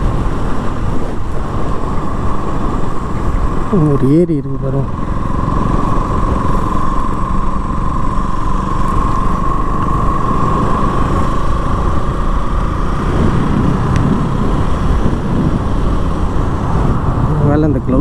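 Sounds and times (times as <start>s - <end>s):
motorcycle cruising: 0.0s - 18.0s
steady high whine: 0.0s - 18.0s
wind noise: 0.0s - 18.0s.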